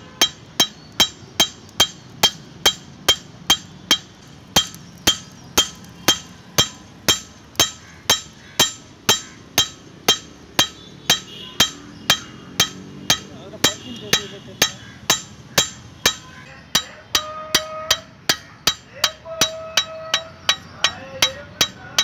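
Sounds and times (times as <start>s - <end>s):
hammer striking steel blade: 0.2s - 16.2s, 16.8s - 22.0s.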